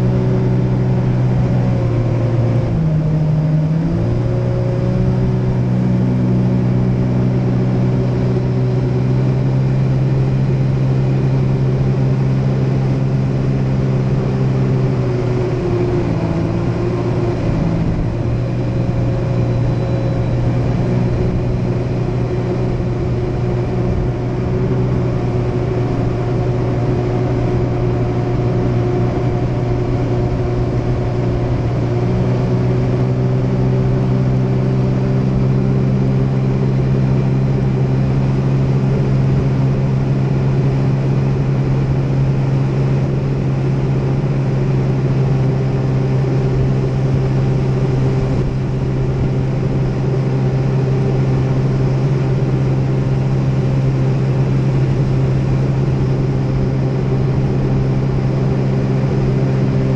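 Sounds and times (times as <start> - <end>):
jet ski engine drone: 0.0 - 59.9.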